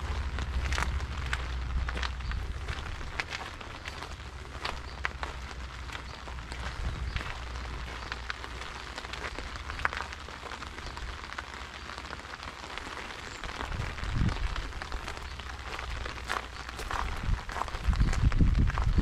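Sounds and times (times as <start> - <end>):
low rumble: 0.0 - 19.0
steady rain: 0.0 - 19.0.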